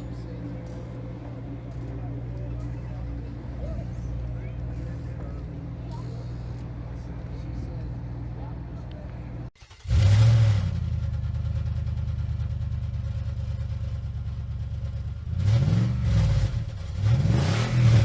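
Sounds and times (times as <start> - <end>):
car engine idling: 0.0 - 18.0
car engine revving: 0.0 - 18.0.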